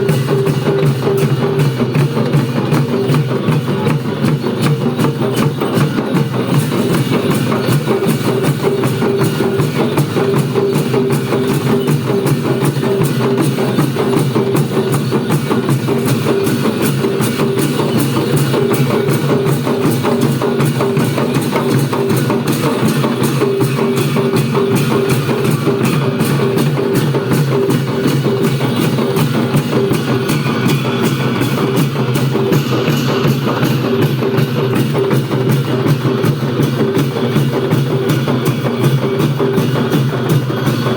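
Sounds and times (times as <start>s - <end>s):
drums beaten fast: 0.0s - 40.9s.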